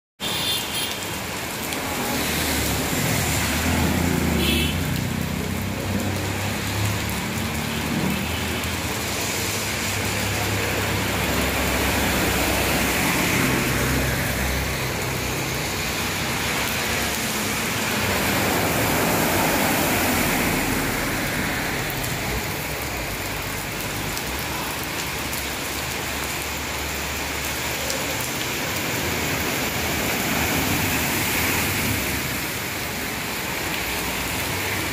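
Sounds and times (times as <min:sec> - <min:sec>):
heavy rain pouring on road: 0:00.2 - 0:34.9.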